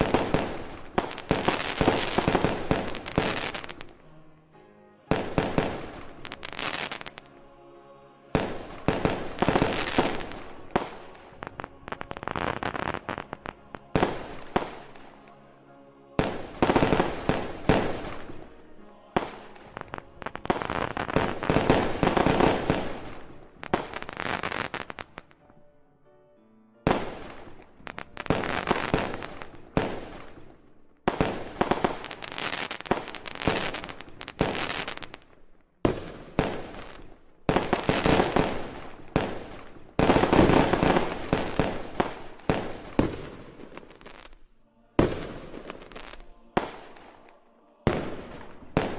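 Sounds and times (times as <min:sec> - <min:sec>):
firework crackles: 0:00.0 - 0:04.1, 0:05.1 - 0:07.4, 0:08.3 - 0:15.2, 0:16.2 - 0:18.6, 0:19.2 - 0:25.5, 0:26.9 - 0:48.9.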